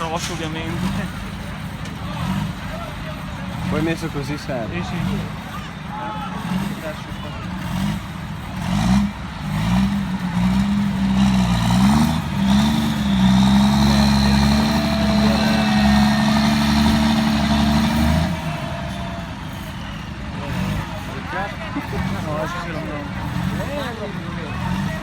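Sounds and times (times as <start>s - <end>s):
tractor diesel engine revving: 0.0s - 25.0s.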